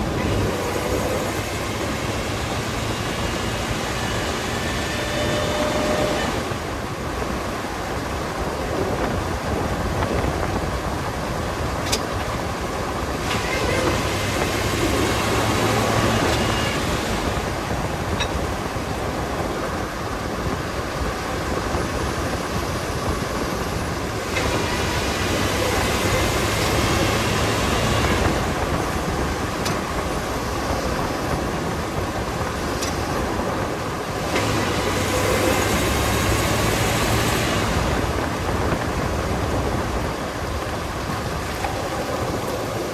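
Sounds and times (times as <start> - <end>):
vehicle running rumble: 0.0 - 42.9.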